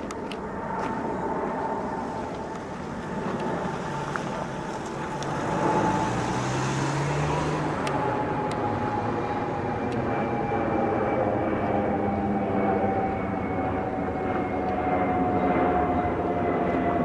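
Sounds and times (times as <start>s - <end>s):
jet engines rumbling overhead: 0.0s - 17.0s.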